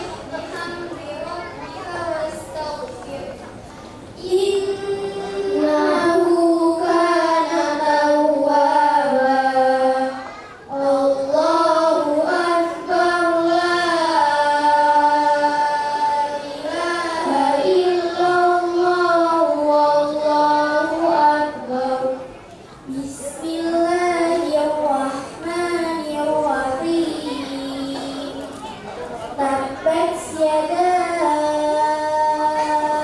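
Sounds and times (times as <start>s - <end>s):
girl reciting in sung style: 0.0s - 33.0s.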